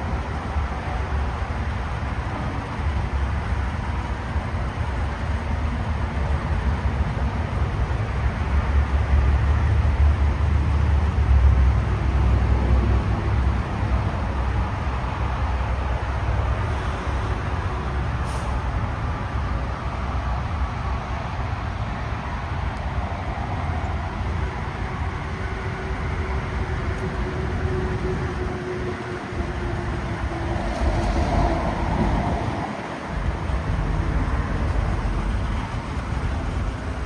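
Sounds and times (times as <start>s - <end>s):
vehicle low rumble: 0.0s - 37.0s.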